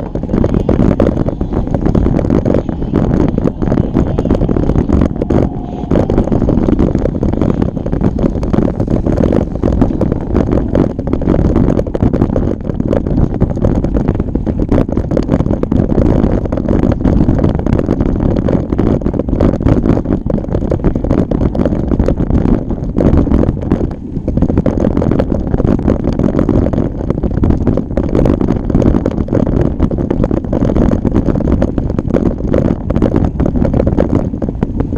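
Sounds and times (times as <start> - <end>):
wind rumbling on microphone: 0.0 - 34.9.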